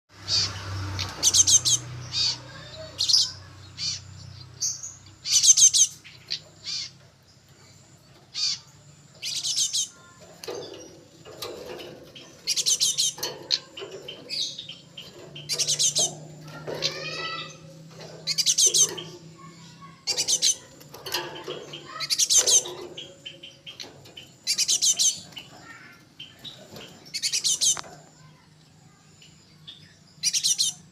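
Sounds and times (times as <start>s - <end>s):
bird chirping: 0.2s - 30.9s.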